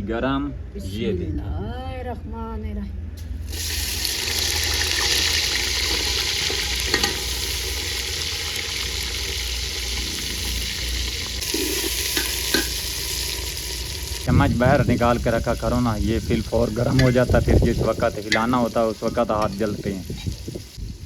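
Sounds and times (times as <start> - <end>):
onions sizzling in a pot: 3.2 - 21.0.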